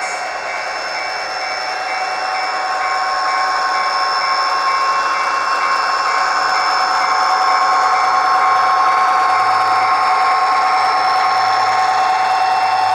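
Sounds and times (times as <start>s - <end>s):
high whining tones: 0.0s - 12.9s
model locomotive engine sound: 0.0s - 12.9s.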